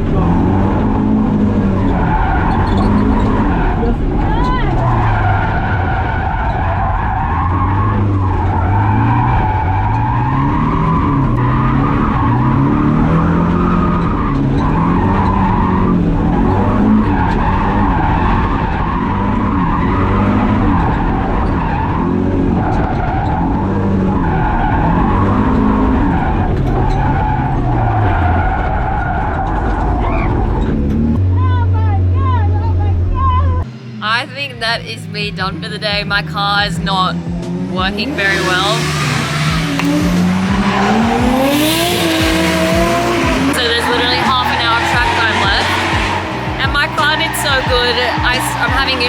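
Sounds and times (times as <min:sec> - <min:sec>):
car engine revving: 0:00.0 - 0:49.0
tyres skidding: 0:00.0 - 0:49.0.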